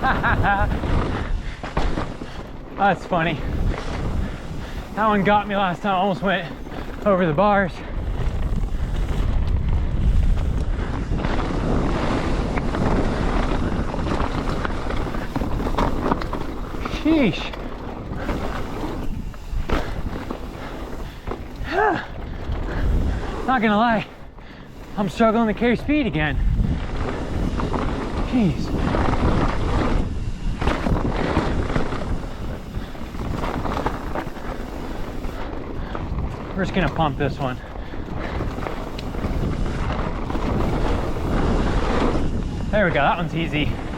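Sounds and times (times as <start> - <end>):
bike clattering: 0.0 - 43.9
tyres rumbling on dirt: 0.0 - 43.9
wind rushing over microphone: 0.0 - 43.9.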